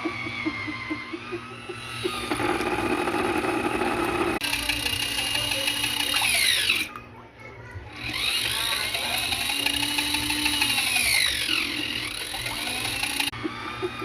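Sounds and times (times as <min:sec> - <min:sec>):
small electric motor whining: 0:00.0 - 0:07.0, 0:07.9 - 0:14.0.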